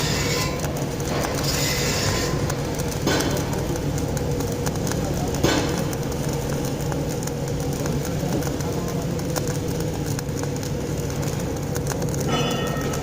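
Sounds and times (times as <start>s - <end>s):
machine hum: 0.0s - 13.0s
welding arc crackling hiss: 0.0s - 13.0s.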